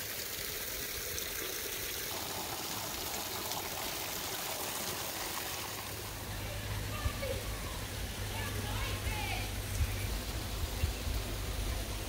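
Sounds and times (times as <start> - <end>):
water splashing over rocks: 0.0 - 12.0.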